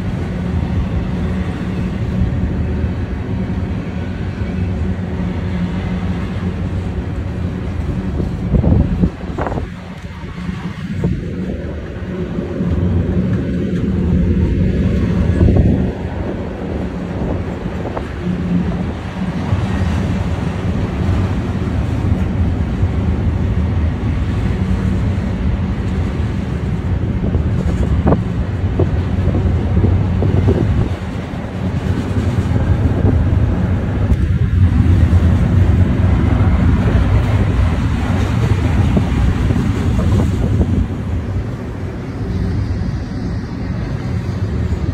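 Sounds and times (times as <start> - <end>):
freight train wheels rumbling on rail: 0.0 - 44.9.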